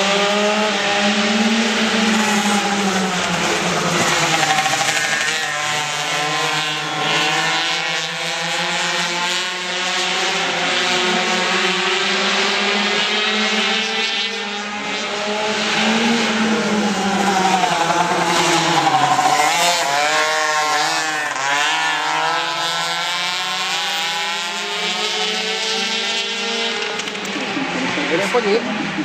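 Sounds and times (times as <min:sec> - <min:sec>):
small two-stroke engines buzzing: 0:00.0 - 0:29.0.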